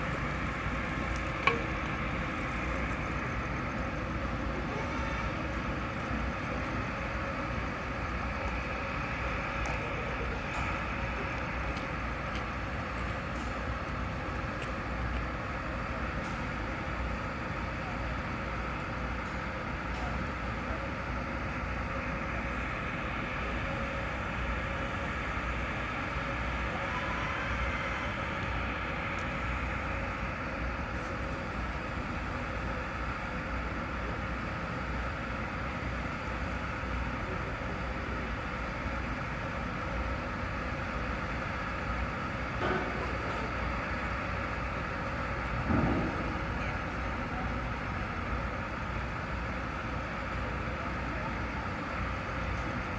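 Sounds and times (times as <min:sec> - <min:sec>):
faint constant hum: 0:00.0 - 0:52.9.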